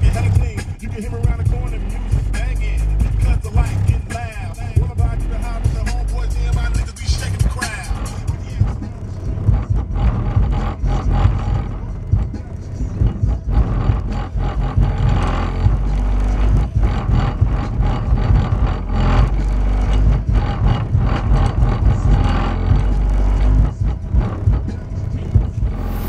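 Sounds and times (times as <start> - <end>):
bass-heavy music from subwoofer: 0.0 - 26.0.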